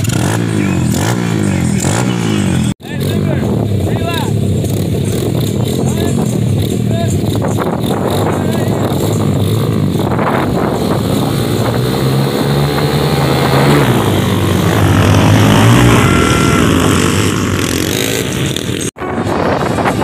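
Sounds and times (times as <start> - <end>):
pit bike engines revving: 0.0 - 20.0.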